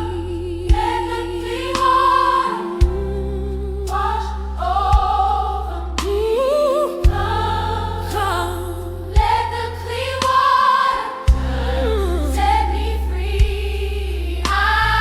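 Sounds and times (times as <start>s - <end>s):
choir singing: 0.0s - 15.0s
deep bass: 0.0s - 15.0s
lead voice singing: 0.0s - 15.0s.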